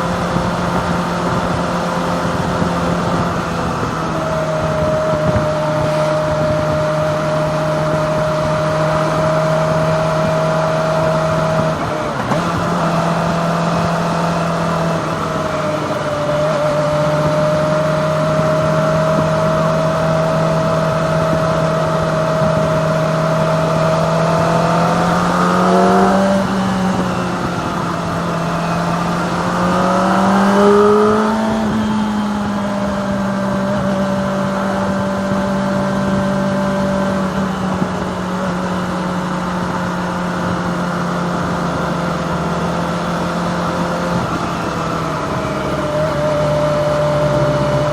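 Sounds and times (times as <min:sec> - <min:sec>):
motorcycle engine while riding: 0:00.0 - 0:47.9
wind noise: 0:00.0 - 0:47.9.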